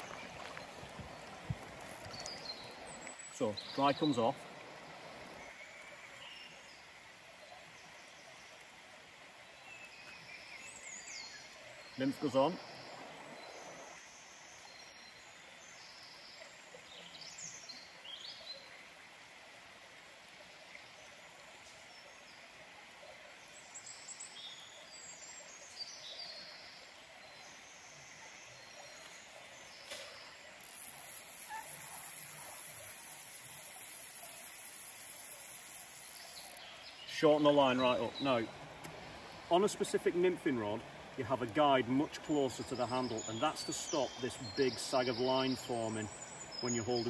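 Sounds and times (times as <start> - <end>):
songbirds chirping and trilling: 0.0 - 8.7, 9.3 - 18.8, 23.4 - 47.0
faint river wash: 0.0 - 47.0.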